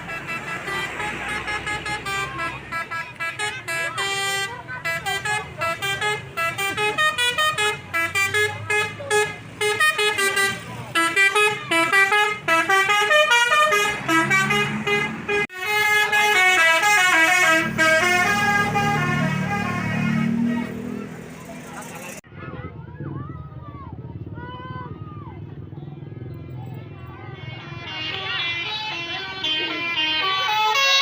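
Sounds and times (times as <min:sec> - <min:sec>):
multi-tone bus horn melody: 0:00.0 - 0:21.2, 0:27.2 - 0:31.0
bus engine rumbling: 0:00.0 - 0:31.0.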